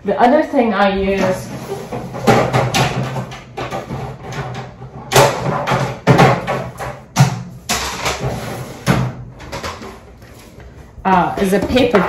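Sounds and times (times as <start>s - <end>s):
objects knocking and scraping on shelf: 1.0s - 12.0s.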